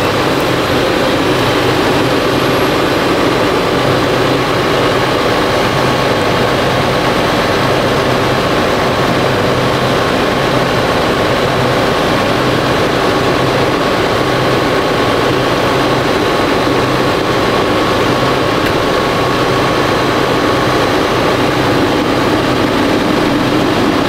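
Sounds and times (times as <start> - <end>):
tractor diesel engine humming: 0.0 - 24.0.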